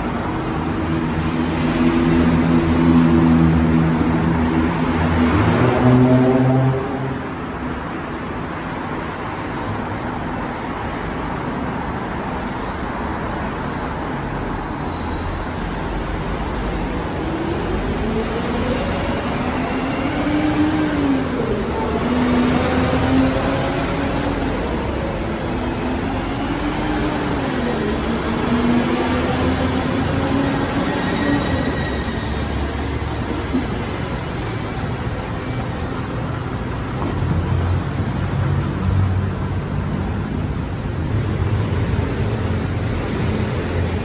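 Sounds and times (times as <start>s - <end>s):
passing cars and buses: 0.0s - 44.0s.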